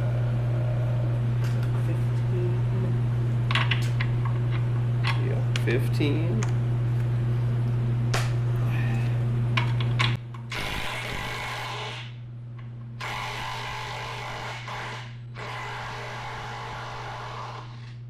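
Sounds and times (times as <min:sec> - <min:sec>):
loud steady hum: 0:00.0 - 0:18.0.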